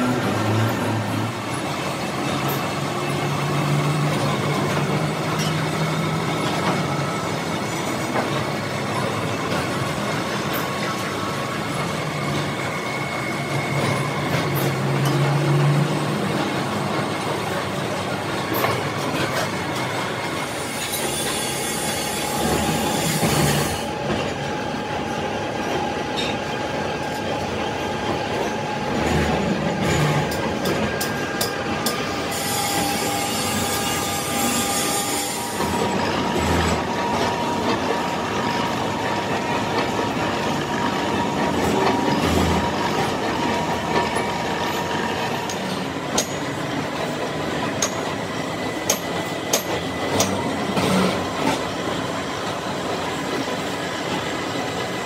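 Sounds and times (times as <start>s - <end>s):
machine grinding metal with squeals: 0.0s - 55.0s.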